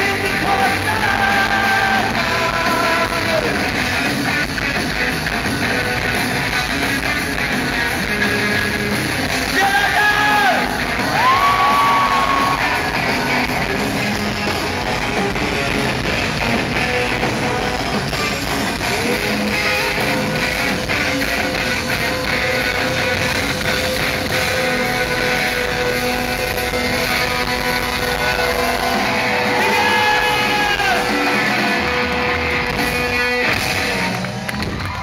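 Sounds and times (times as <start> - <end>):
rock band playing live: 0.0 - 35.0.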